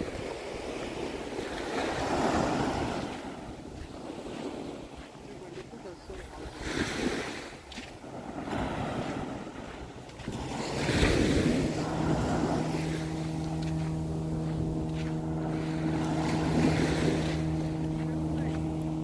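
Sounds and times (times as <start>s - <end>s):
steady motor drone: 0.0s - 19.0s
waves washing onto beach: 0.0s - 19.0s.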